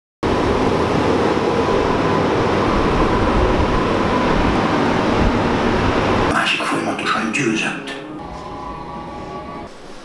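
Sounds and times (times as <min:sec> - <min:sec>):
loud rumbling noise: 0:00.2 - 0:10.0.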